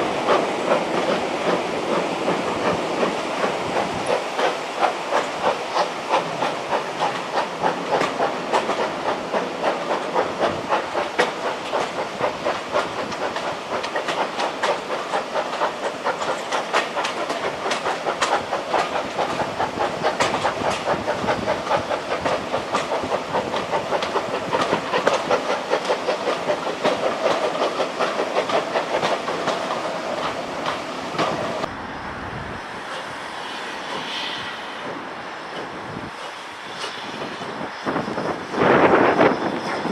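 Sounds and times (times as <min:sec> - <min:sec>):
train wheels clacking: 0:00.0 - 0:31.7, 0:32.8 - 0:39.9.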